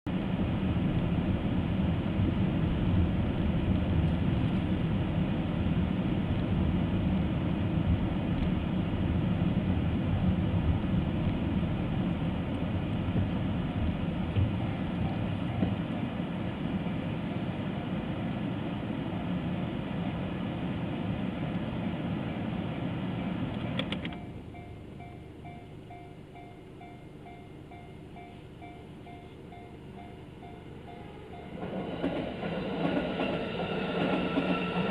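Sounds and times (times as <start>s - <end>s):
vehicle rumble: 0.1s - 32.4s.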